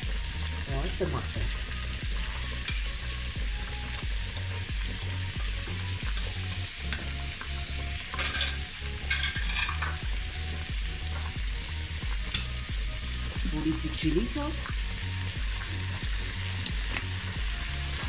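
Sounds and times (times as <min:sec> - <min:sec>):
chicken sizzling in oil: 0:00.0 - 0:18.0.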